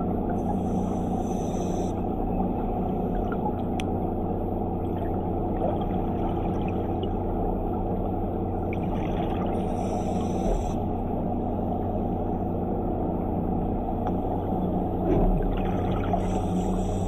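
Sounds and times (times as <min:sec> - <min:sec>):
underwater scooter motor hum: 0:00.0 - 0:17.0.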